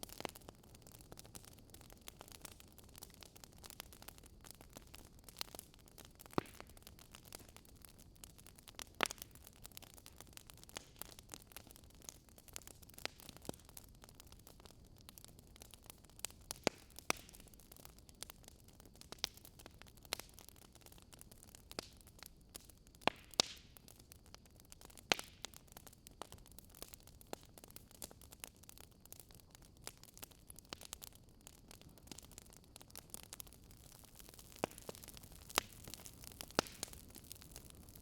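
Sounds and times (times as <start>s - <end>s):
faint steady hiss: 0.0s - 38.0s
wood fire crackling: 0.0s - 38.0s.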